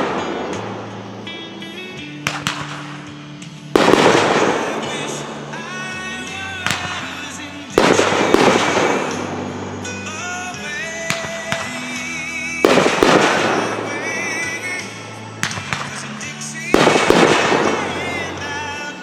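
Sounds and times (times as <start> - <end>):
fireworks booming: 0.0 - 1.4, 2.2 - 19.0
fireworks cracks: 0.0 - 19.0
music: 0.0 - 19.0.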